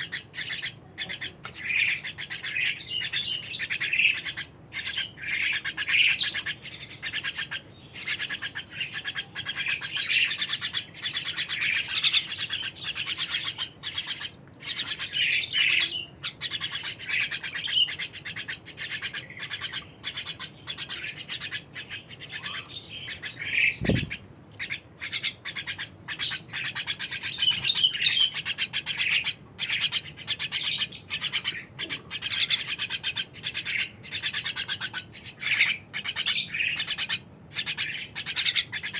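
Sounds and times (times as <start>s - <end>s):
bird singing chirps and warbles: 0.0s - 38.9s.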